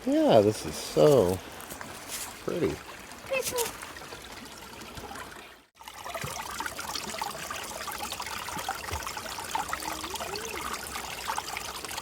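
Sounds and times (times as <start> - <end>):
creek water trickling over rocks: 0.0 - 12.0.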